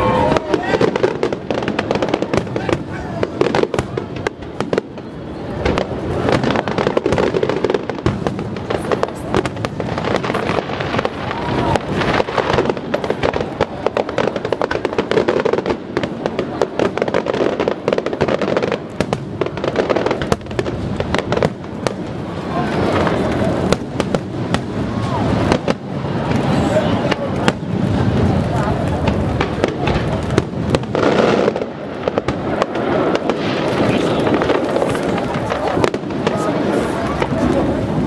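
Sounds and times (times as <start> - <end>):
fireworks bursting with crackling: 0.0 - 38.0.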